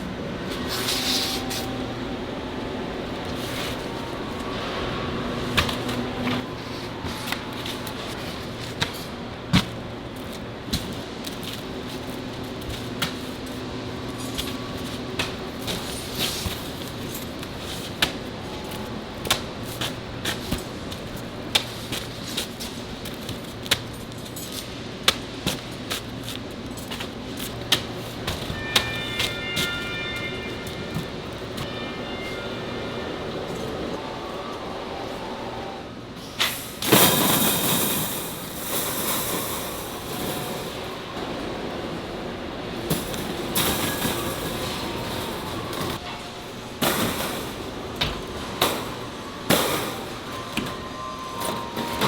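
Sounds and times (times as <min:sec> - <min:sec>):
machinery hum: 0:00.0 - 0:52.0.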